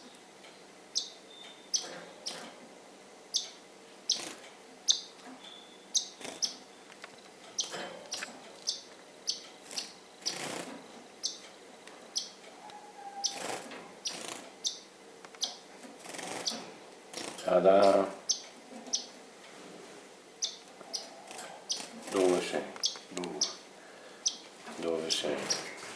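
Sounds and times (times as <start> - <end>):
small birds chirping: 0.0 - 2.5, 3.3 - 10.6, 11.2 - 19.2, 20.4 - 25.8.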